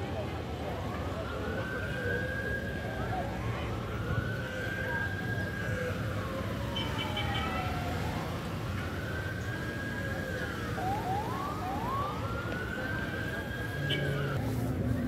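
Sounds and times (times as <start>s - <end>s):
emergency siren wailing: 0.0s - 14.6s
city traffic rumble: 0.0s - 15.0s.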